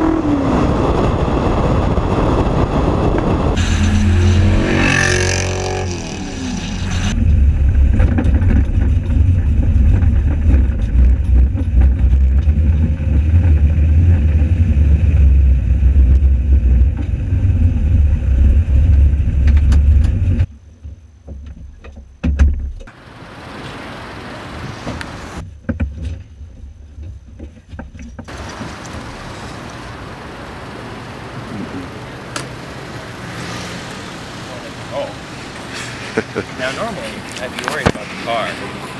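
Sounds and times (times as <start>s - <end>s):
car engine rumbling: 0.0s - 20.5s, 22.8s - 25.5s, 28.1s - 38.9s.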